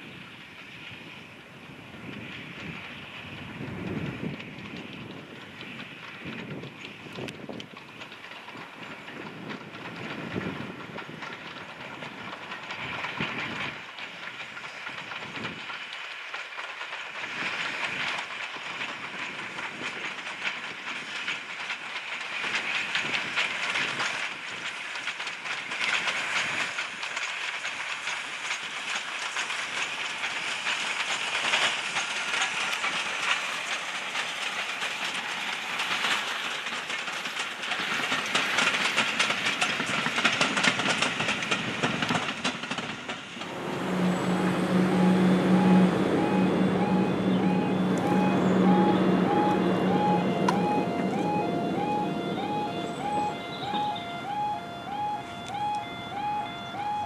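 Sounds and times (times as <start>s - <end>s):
train wheels clattering on rails: 0.0s - 57.0s
steam hissing: 5.2s - 55.3s.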